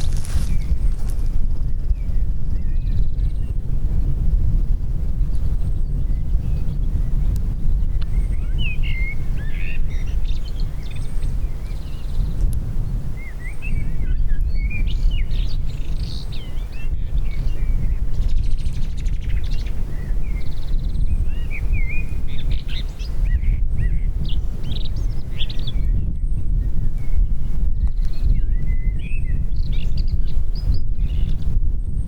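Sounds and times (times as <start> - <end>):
small birds singing: 0.0 - 4.2, 4.9 - 32.0
wind rumble on microphone: 0.0 - 32.0.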